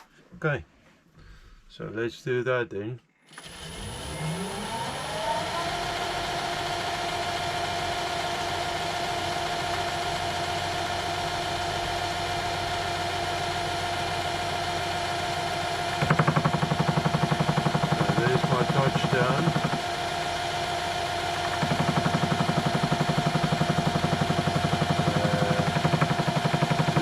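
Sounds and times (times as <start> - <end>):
lathe motor whine: 3.4 - 27.0.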